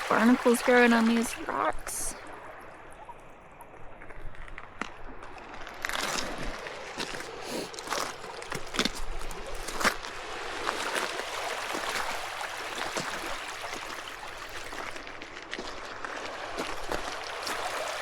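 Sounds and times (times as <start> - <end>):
water trickling over rocks: 0.0 - 18.0.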